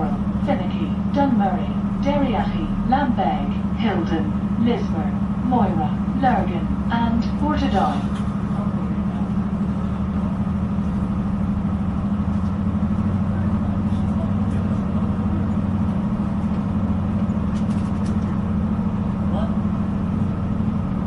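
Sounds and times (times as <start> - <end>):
diesel train hum and rumble: 0.0 - 21.0.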